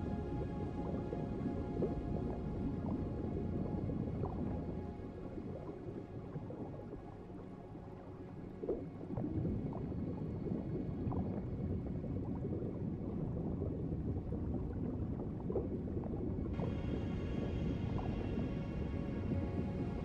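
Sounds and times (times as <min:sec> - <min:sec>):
bubbles gurgling and popping: 0:00.0 - 0:20.0
underwater rumbling wash: 0:00.0 - 0:20.0.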